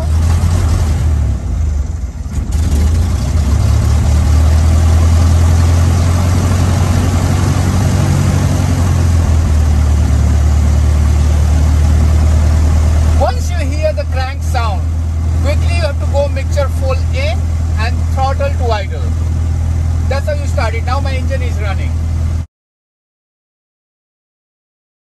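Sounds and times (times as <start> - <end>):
light aircraft engine droning: 0.0 - 22.5.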